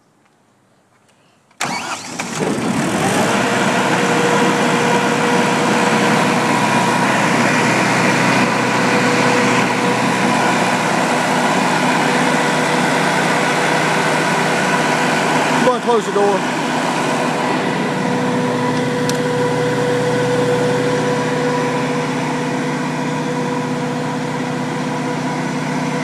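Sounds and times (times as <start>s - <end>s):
diesel generator starting and running: 1.5s - 26.0s.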